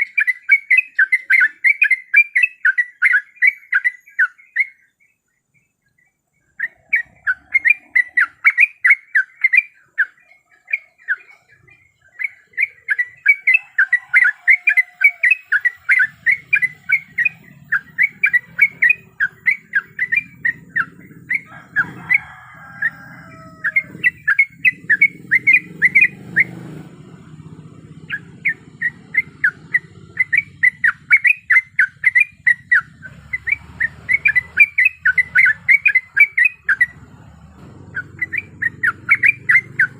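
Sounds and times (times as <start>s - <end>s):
sliding bird calls: 0.0s - 4.8s, 6.4s - 39.9s
bulbul chattering calls: 0.0s - 39.9s.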